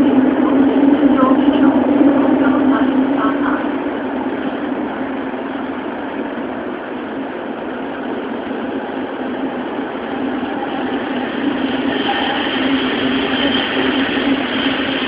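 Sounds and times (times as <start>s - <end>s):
low hum: 0.0s - 15.0s
subway car rumbling in tunnel: 0.0s - 15.0s.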